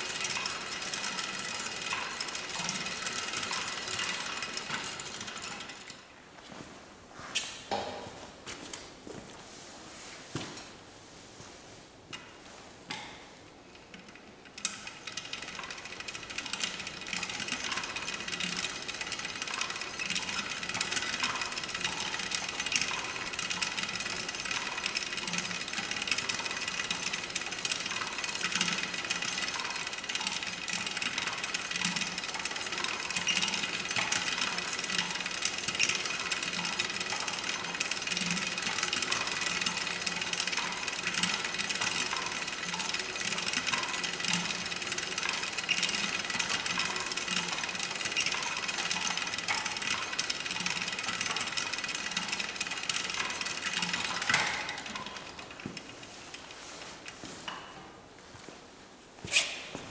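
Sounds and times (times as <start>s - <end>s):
lathe gear clatter: 0.0s - 6.0s, 12.9s - 57.6s.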